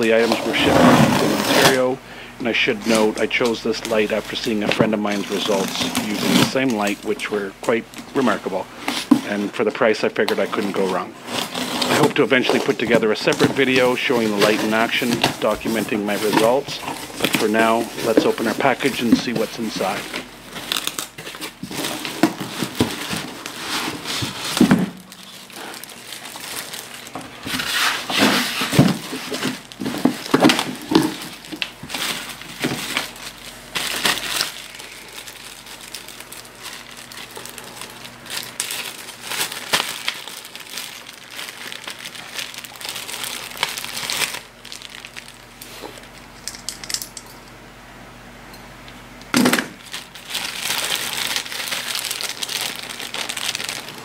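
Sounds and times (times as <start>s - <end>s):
plastic wrap crinkling: 0.0s - 47.1s, 49.5s - 54.0s.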